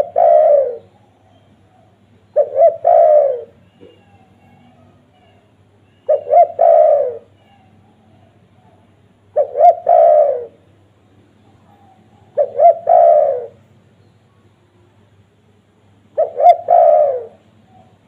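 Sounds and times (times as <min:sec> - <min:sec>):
dove cooing: 0:00.0 - 0:10.8, 0:11.4 - 0:13.7, 0:16.1 - 0:18.0.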